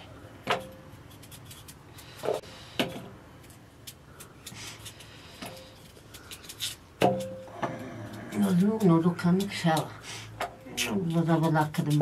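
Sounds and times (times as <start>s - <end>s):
knife peeling potatoes: 0.4s - 12.0s.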